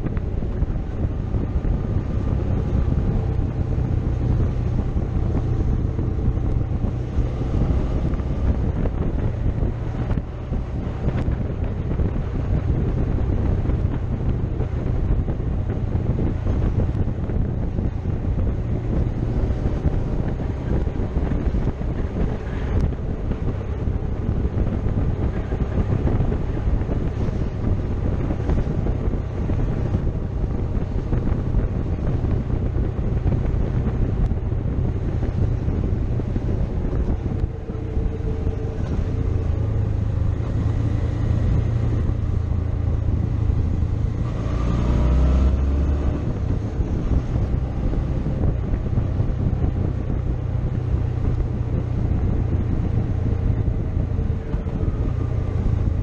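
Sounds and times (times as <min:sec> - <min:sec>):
motorcycle engine running: 0:00.0 - 0:44.3, 0:46.2 - 0:56.0
wind noise on microphone: 0:00.0 - 0:56.0.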